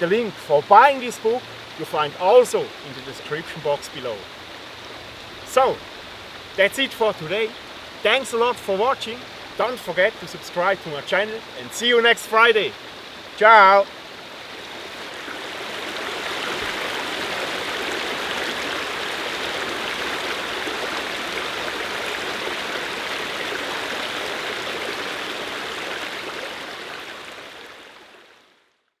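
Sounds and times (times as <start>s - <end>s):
stream water running: 0.0s - 28.8s.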